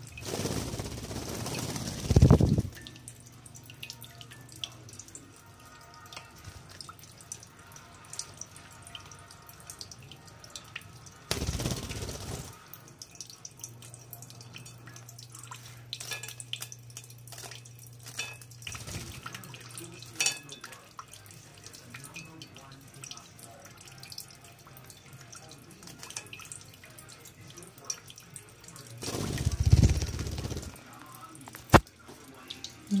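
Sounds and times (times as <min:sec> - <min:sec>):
tap water trickling onto tiles: 0:00.0 - 0:33.0
water drips and splashes: 0:00.0 - 0:33.0.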